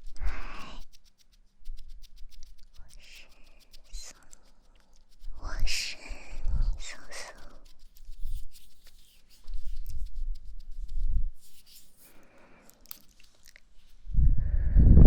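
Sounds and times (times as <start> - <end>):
muffled rubbing on microphone: 0.0 - 14.4.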